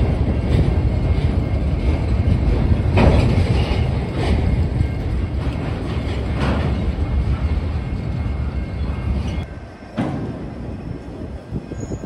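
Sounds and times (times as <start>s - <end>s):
freight train wheels rumbling on rail: 0.0s - 12.0s
train cars clanking: 0.0s - 12.0s.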